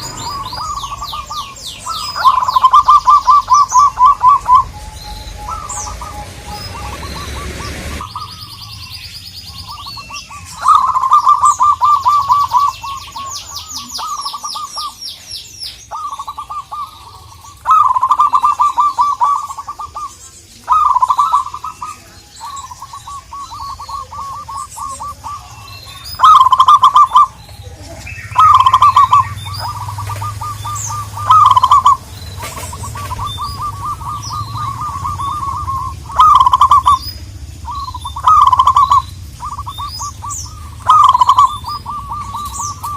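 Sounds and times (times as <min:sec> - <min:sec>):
dove staccato cooing: 0:00.0 - 0:08.6, 0:09.4 - 0:15.0, 0:15.9 - 0:42.9
small bird high chirps: 0:00.0 - 0:42.9.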